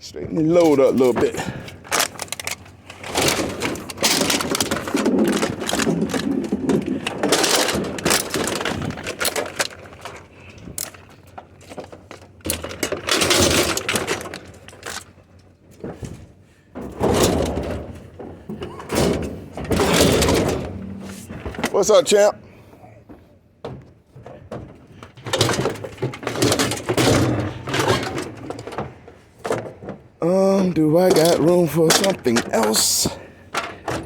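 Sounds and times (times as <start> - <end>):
scrap metal clanking and scraping: 0.6 - 15.2, 15.8 - 22.8, 24.2 - 30.1.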